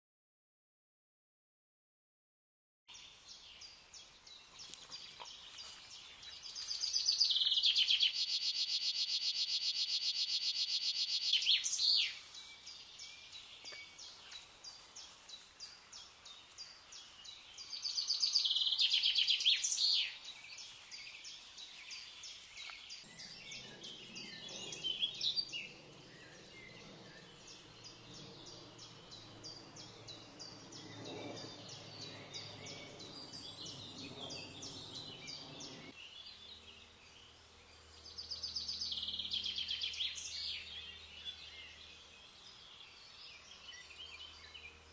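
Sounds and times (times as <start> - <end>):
birds singing and chirping: 2.9 - 44.9.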